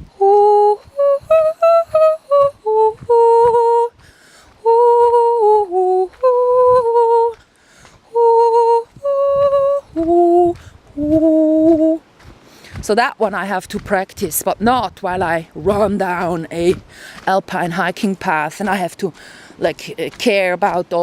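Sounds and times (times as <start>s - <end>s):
woman singing wordless melody: 0.0s - 21.0s.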